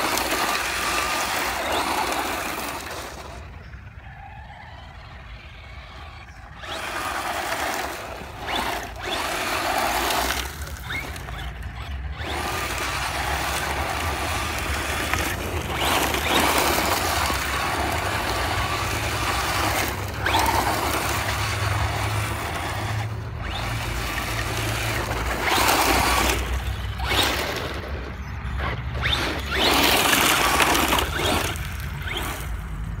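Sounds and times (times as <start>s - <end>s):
electric motor whining: 0.0s - 33.0s
tyres scrabbling on gravel: 0.0s - 33.0s.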